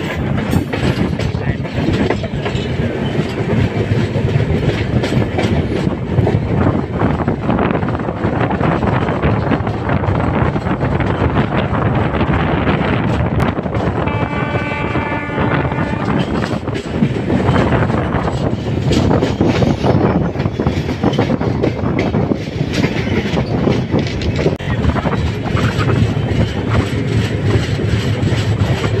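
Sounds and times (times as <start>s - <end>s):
train wheels rumbling on rail: 0.0s - 29.0s
wheels clickety-clack on rail joints: 0.0s - 29.0s.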